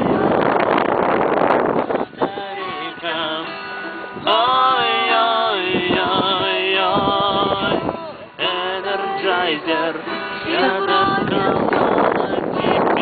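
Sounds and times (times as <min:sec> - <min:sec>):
acoustic guitar: 0:00.0 - 0:13.0
voices singing together: 0:00.0 - 0:13.0.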